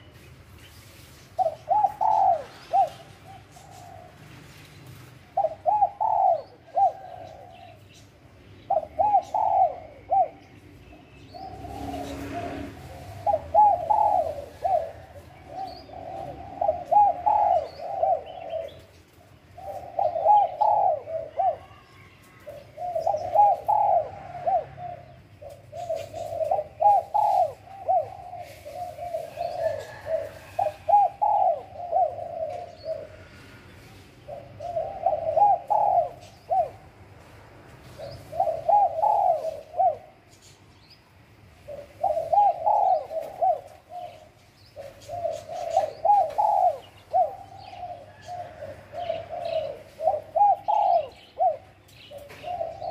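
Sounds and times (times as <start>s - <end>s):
dove cooing: 1.3s - 40.6s, 41.2s - 52.9s.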